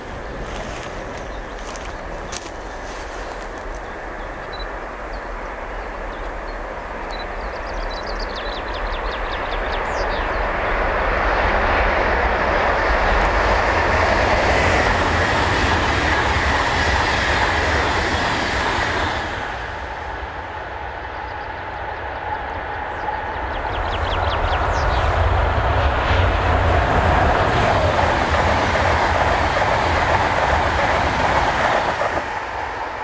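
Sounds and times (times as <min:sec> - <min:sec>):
high-speed train passing: 0:00.0 - 0:33.0.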